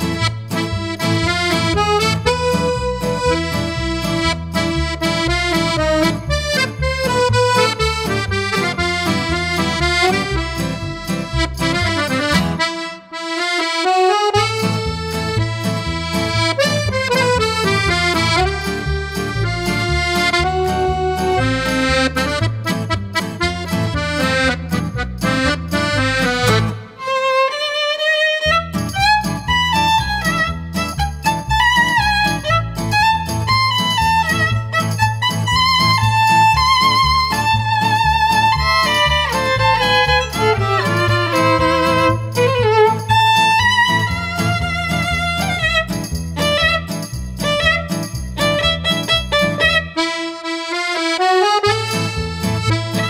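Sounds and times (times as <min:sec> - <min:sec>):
instrumental music with bass beat: 0:00.0 - 0:53.0.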